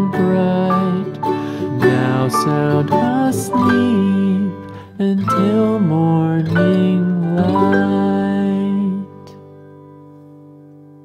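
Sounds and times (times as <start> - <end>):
children's music with plucked guitar: 0.0 - 11.0.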